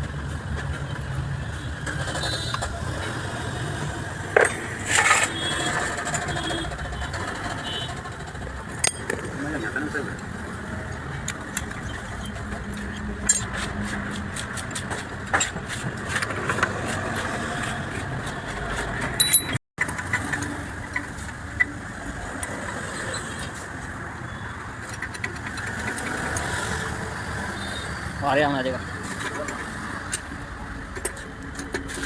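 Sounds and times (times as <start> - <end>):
vehicle engine and traffic: 0.0 - 32.0.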